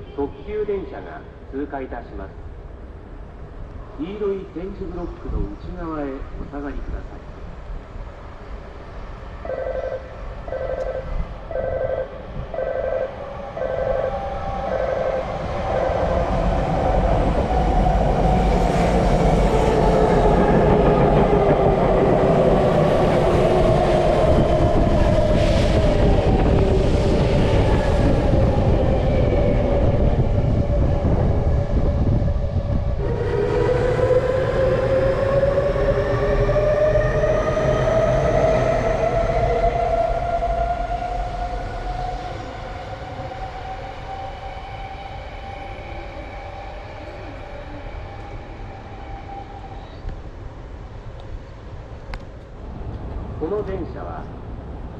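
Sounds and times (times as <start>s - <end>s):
train passing with loud rumble: 0.0s - 54.9s.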